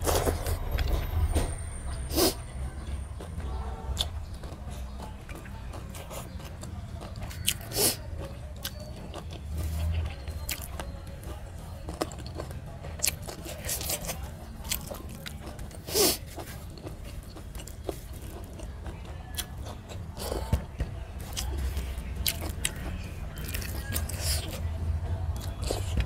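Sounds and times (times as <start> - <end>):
person chewing: 0.0 - 2.4, 3.2 - 20.5, 21.2 - 24.7, 25.3 - 26.0.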